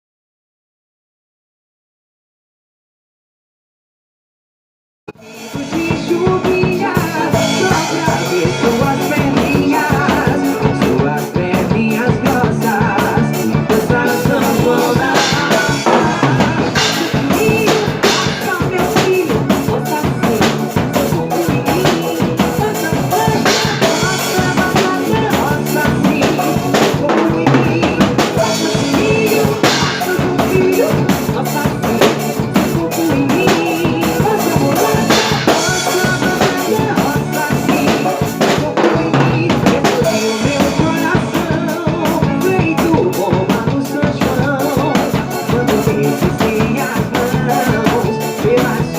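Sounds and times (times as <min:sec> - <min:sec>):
drum kit playing a steady beat: 0:05.1 - 0:48.9
recorded band music: 0:05.1 - 0:48.9.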